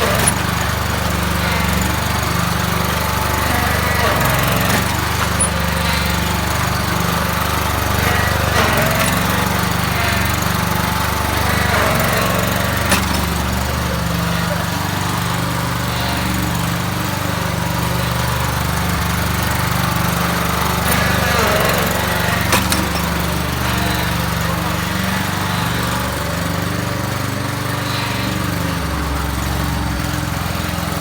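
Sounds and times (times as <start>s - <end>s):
lawn tractor engine running: 0.0s - 31.0s.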